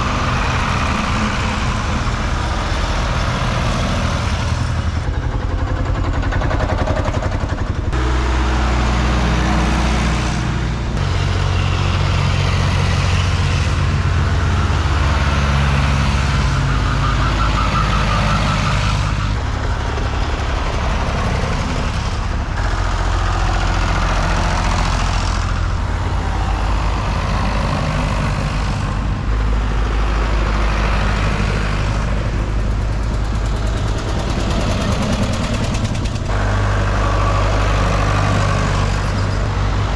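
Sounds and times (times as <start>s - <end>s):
tractor engines passing: 0.0s - 39.9s.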